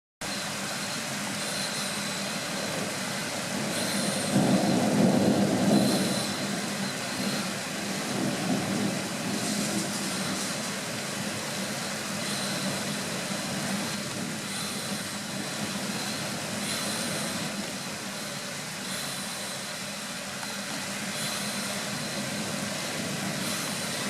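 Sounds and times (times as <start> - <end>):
steady hiss: 0.2 - 24.0
thunder rumbling: 1.9 - 24.0.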